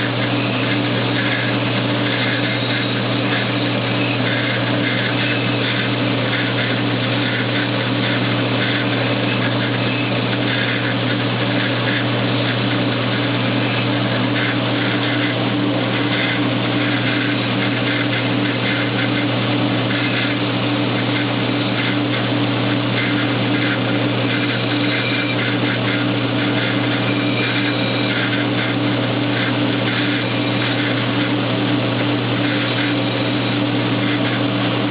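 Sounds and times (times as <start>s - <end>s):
belt grinder motor hum: 0.0s - 34.9s.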